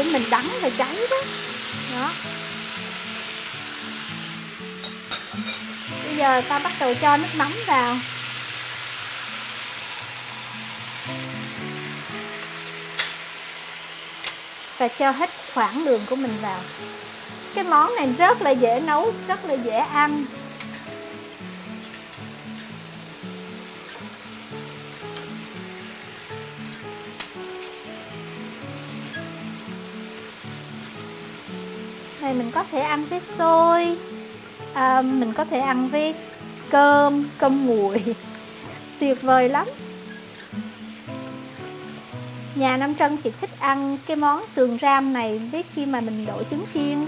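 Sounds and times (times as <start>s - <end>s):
meat sizzling in a frying pan: 0.0s - 47.0s
soft background music: 0.0s - 47.0s.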